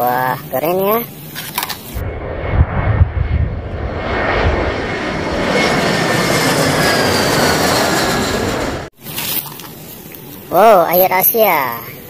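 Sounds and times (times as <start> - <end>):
jet airliner engines passing overhead: 0.3 - 8.9, 9.6 - 12.0.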